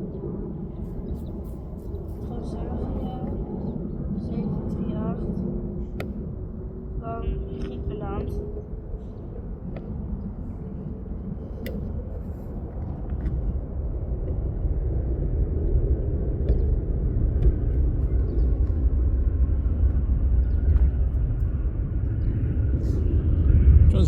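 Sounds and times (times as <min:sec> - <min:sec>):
jet engines low rumble: 0:00.0 - 0:24.0.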